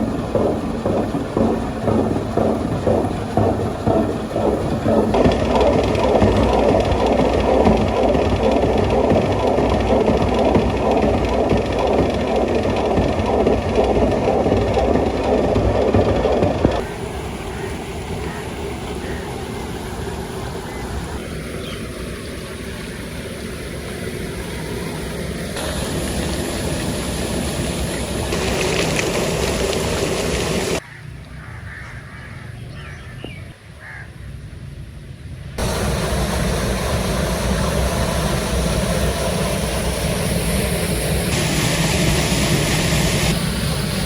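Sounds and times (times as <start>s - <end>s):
flour mill machinery running: 0.0s - 30.8s, 35.6s - 44.0s.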